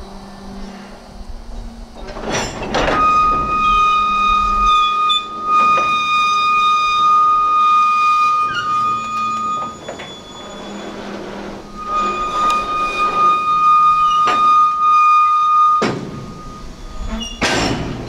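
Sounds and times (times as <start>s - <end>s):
train wheels squealing on rail: 1.6s - 18.0s.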